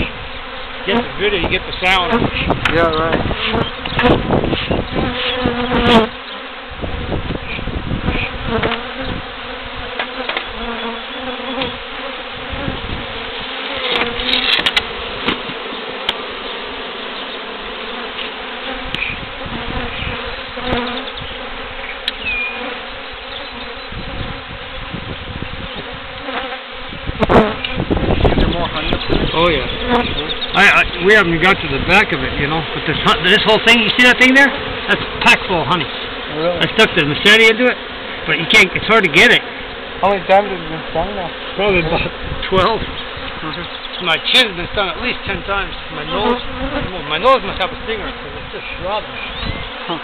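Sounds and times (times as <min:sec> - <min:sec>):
honeybees buzzing: 0:00.0 - 0:50.0.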